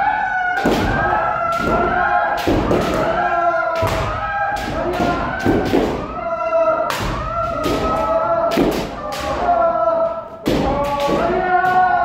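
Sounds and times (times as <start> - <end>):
people shouting long held shouts: 0.0 - 12.0.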